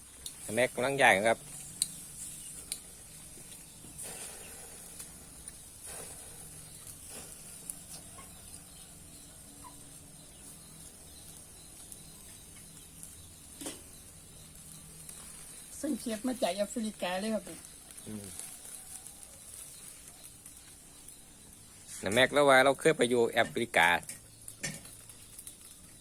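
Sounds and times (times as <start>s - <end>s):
beef sizzling on a grill: 0.0s - 26.0s.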